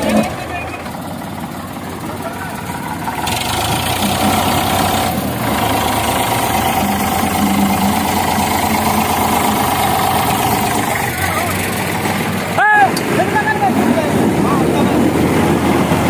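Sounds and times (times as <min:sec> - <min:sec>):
diesel tractor engines under load: 0:00.0 - 0:16.0.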